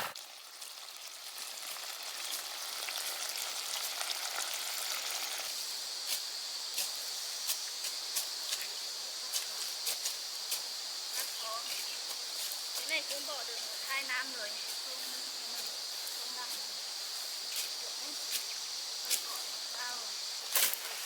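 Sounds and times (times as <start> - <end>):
crackling hiss: 0.0 - 21.0
insect trilling: 0.0 - 21.0.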